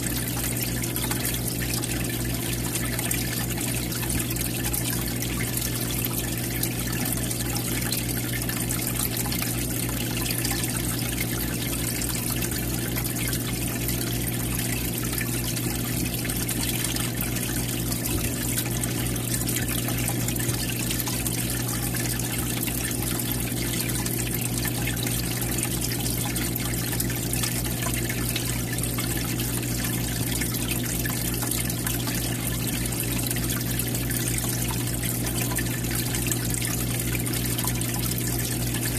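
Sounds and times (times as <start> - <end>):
filter water trickling into tank: 0.0 - 38.9.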